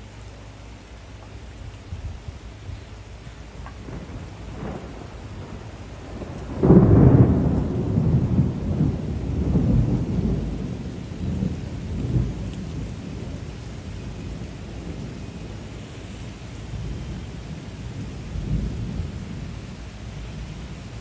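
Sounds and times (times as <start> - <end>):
steady rain: 0.0 - 21.0
thunder rumbling: 1.9 - 21.0.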